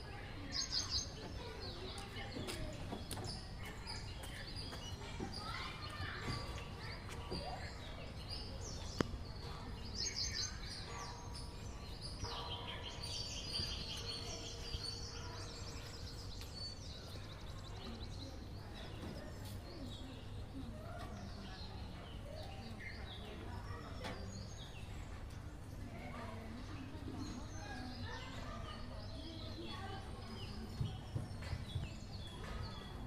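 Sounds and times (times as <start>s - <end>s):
birds chirping and trilling: 0.0s - 33.0s.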